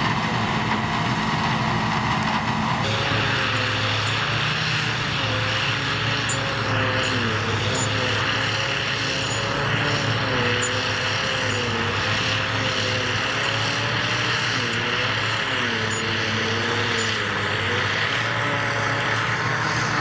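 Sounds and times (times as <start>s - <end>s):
harvester rotor whine: 0.0s - 20.0s
tractor engine under load: 0.0s - 20.0s.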